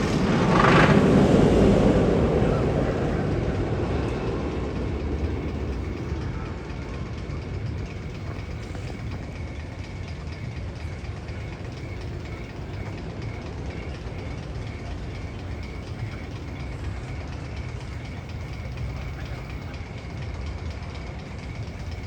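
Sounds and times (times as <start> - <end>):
train-like rumbling: 0.0 - 22.0.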